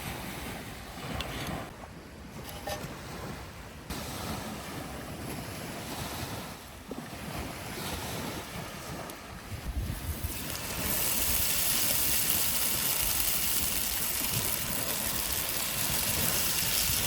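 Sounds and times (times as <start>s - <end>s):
wind rumbling on microphone: 0.0s - 17.0s
sea waves washing onto shore: 2.9s - 17.0s.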